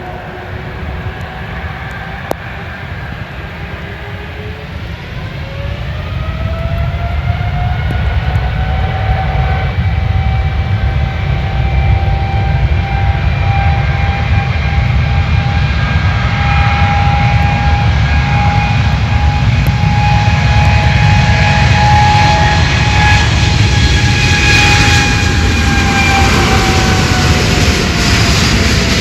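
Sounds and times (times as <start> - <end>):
jet engines whining: 0.0 - 29.0
low rumble: 0.0 - 29.0.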